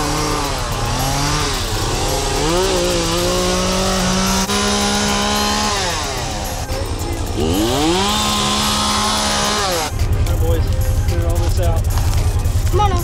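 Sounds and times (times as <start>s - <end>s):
chainsaw cutting brush: 0.0s - 12.7s.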